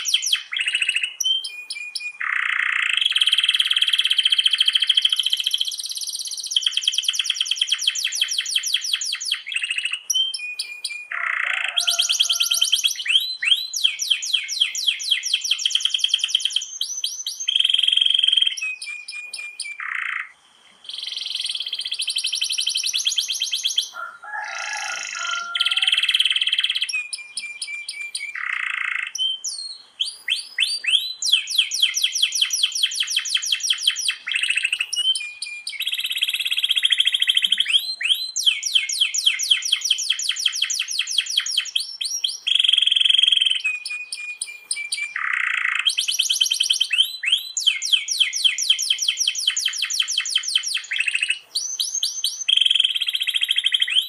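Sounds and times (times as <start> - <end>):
canary singing rolling trills: 0.0 - 54.0.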